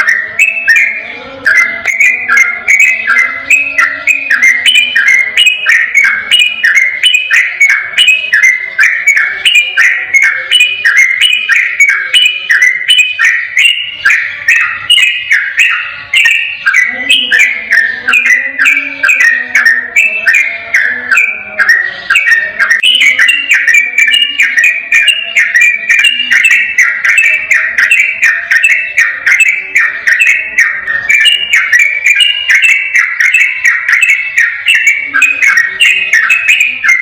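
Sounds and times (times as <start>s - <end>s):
bird singing whistled notes: 0.0s - 37.0s.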